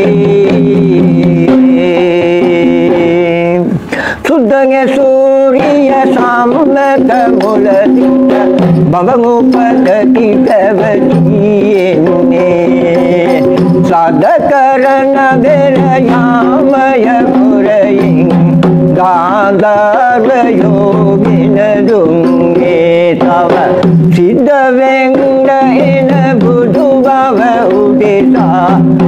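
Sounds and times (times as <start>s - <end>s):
hand-struck barrel drum: 0.0s - 29.0s
man singing a folk chant: 0.0s - 29.0s.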